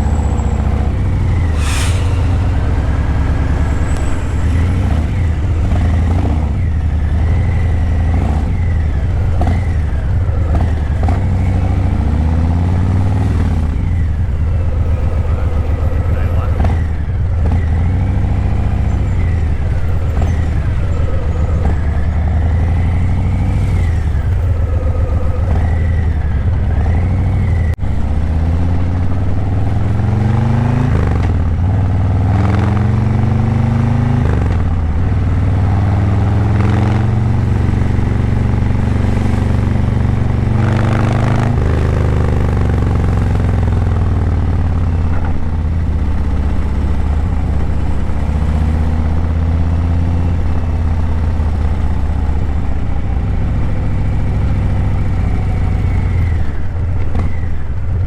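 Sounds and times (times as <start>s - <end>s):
motorcycle engine accelerating: 0.0s - 57.8s.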